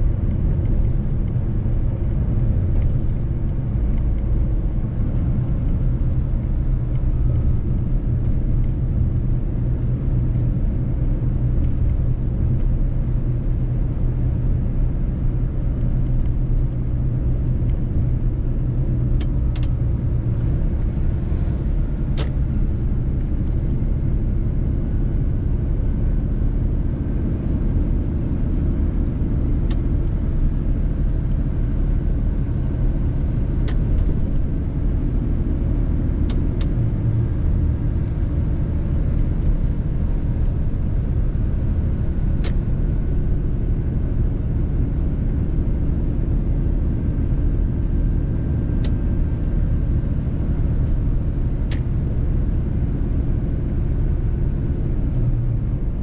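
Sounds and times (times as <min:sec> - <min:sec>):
truck engine and tyres rumbling: 0:00.0 - 0:56.0.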